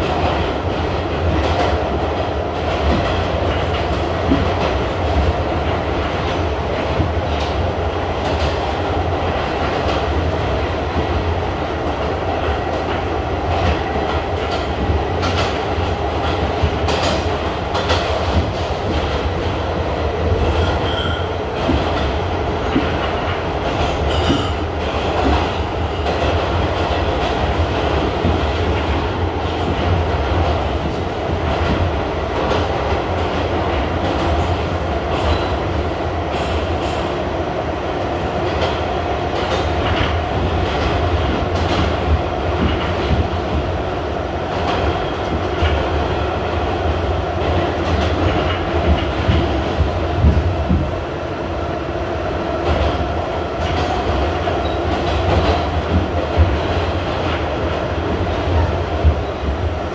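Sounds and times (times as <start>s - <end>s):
subway train rumble: 0.0s - 59.9s.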